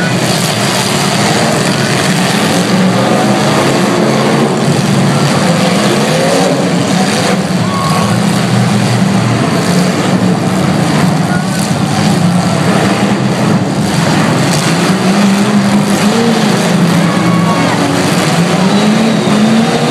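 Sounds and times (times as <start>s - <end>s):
car engines revving: 0.0s - 19.9s.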